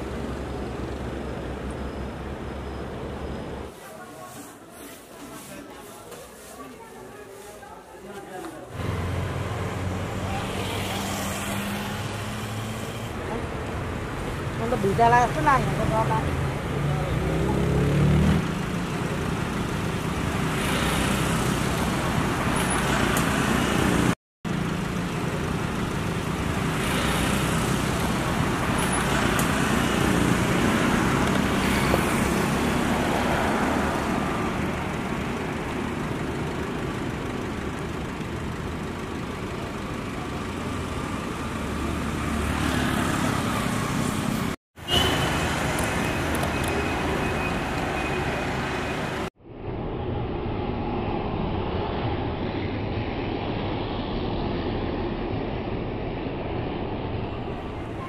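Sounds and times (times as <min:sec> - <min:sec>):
road traffic rumble: 0:00.0 - 0:58.0
vehicles passing close by: 0:00.0 - 0:58.0.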